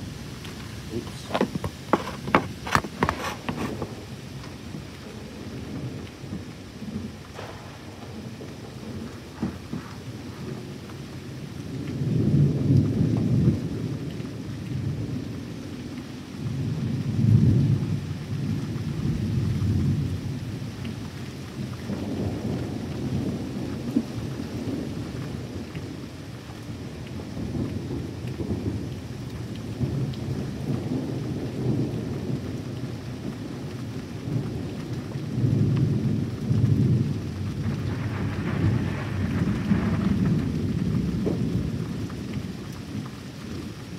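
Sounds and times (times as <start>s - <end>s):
thunder rumbling: 0.0s - 20.8s, 21.6s - 43.9s
steady rain: 0.0s - 43.9s.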